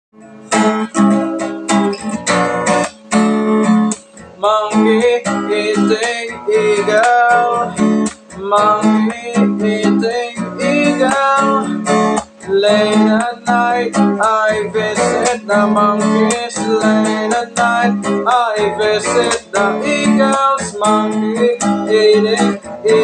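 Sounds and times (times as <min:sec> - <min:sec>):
acoustic guitar strumming: 0:00.2 - 0:23.0
person singing: 0:00.4 - 0:01.5, 0:04.4 - 0:23.0.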